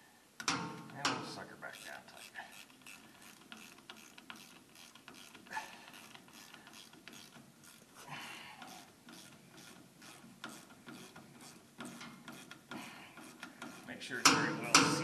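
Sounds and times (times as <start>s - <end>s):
ratchet clicking: 0.4s - 15.0s.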